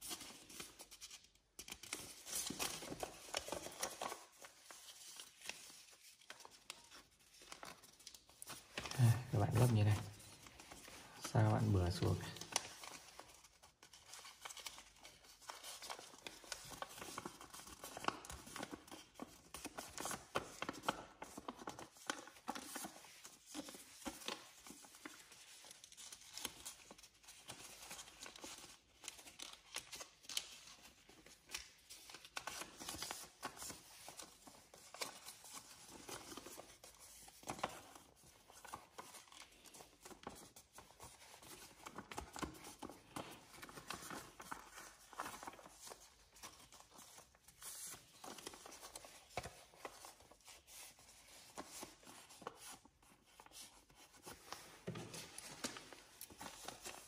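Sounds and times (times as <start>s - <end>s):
paper rustling and crinkling: 0.0s - 57.0s.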